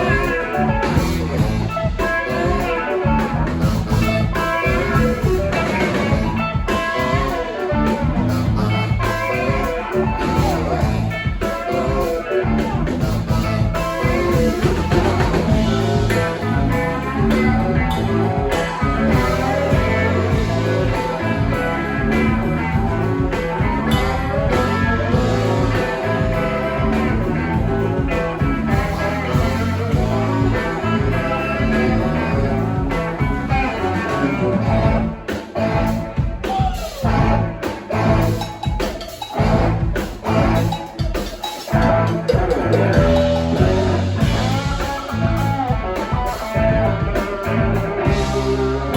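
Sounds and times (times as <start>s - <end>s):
electric guitar: 0.0s - 48.9s
live blues rock band: 0.0s - 48.9s.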